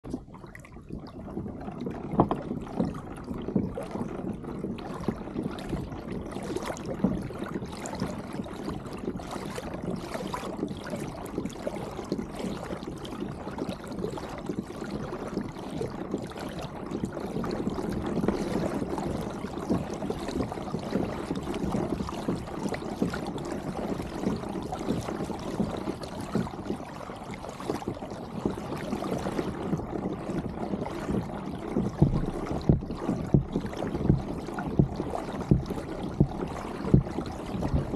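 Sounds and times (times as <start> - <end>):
water lapping against kayak hull: 0.0 - 37.9.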